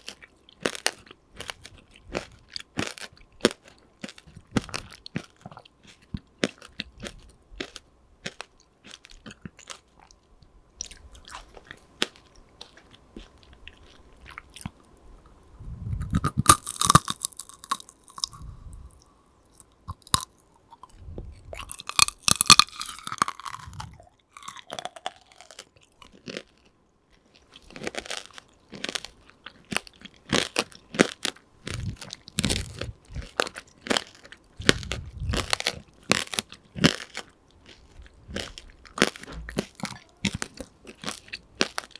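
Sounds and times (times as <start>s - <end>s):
crunching candied fruit: 0.0s - 41.9s.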